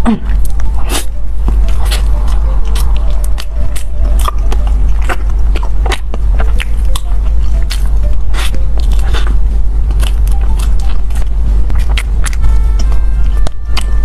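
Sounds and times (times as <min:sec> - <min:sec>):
chewing and biting bread: 0:00.0 - 0:14.0
steady low hum: 0:00.0 - 0:14.0.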